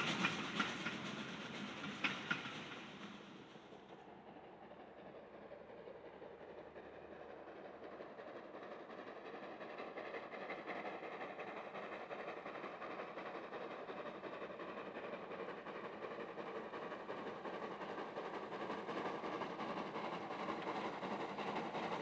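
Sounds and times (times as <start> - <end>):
steam train rumbling: 0.0 - 22.0.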